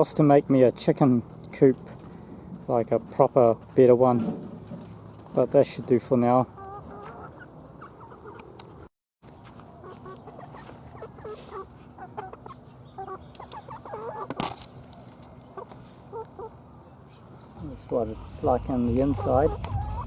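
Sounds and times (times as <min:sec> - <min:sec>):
hens clucking: 0:00.0 - 0:08.9, 0:09.7 - 0:20.0.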